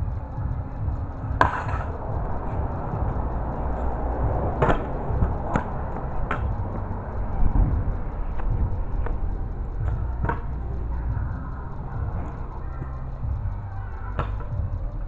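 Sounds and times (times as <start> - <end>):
low rumble: 0.0 - 15.0
scooter deck clacking on concrete: 0.9 - 13.3.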